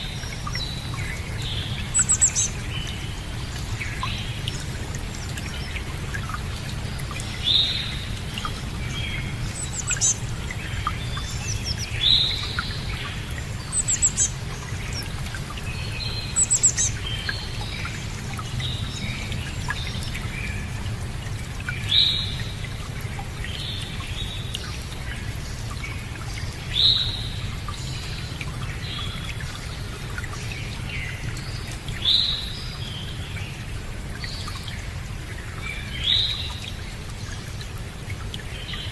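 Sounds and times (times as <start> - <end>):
birds singing and calling: 0.0 - 38.9.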